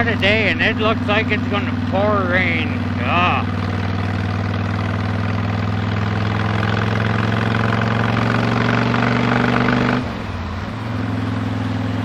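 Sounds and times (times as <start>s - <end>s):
motorcycle engine rising in pitch: 0.0s - 12.0s.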